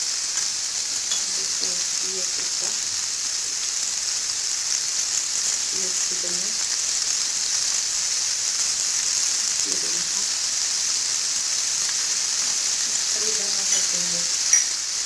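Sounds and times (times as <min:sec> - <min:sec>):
shrimp sizzling in frying pan: 0:00.0 - 0:15.0.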